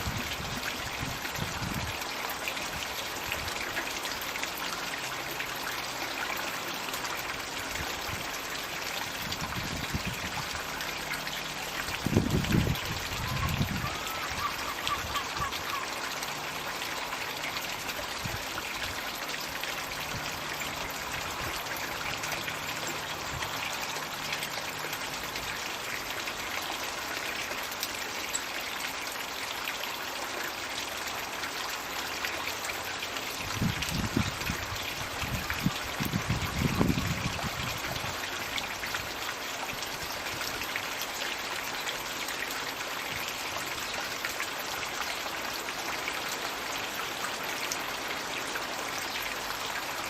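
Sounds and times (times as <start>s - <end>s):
water pouring into pond: 0.0s - 50.0s.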